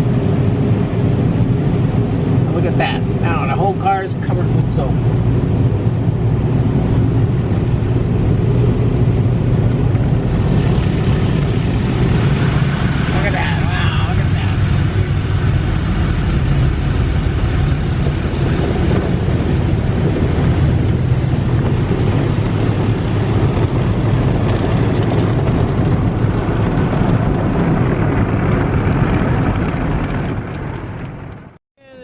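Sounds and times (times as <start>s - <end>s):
car wash equipment droning: 0.0s - 31.3s.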